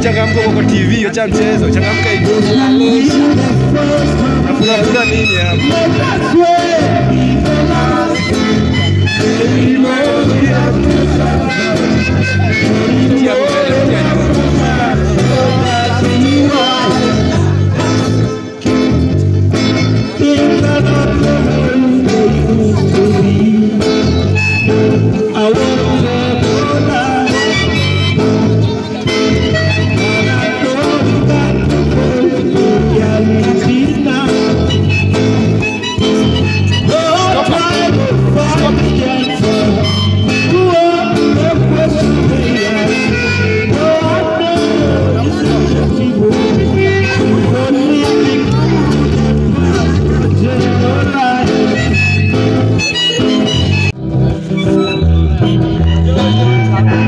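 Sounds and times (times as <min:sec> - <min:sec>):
acoustic guitar: 0:00.0 - 0:57.0
electric bass: 0:00.0 - 0:57.0
harmonica melody: 0:00.0 - 0:57.0.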